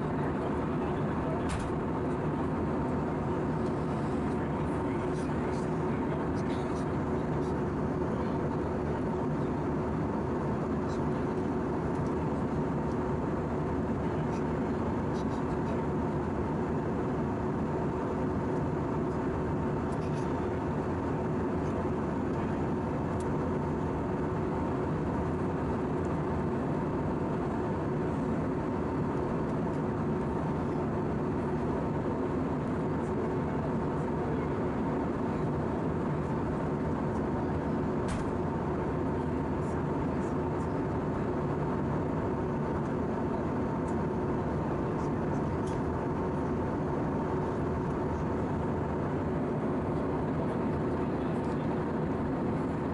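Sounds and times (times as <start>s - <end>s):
aircraft cabin engine roar: 0.0s - 52.9s.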